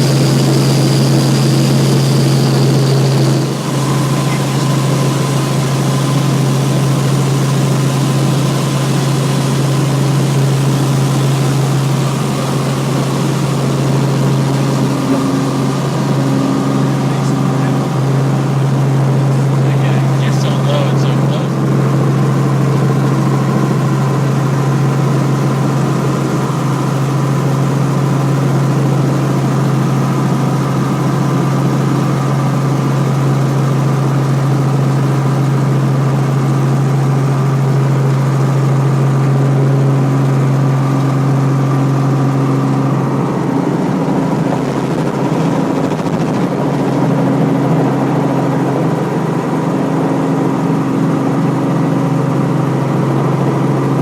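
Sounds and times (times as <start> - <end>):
helicopter engine and rotors drone: 0.0 - 54.0.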